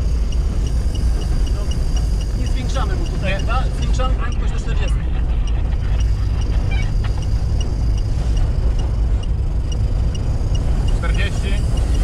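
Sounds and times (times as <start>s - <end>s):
car engine and tyres rumble: 0.0s - 12.0s
faint high ticking: 0.0s - 12.0s.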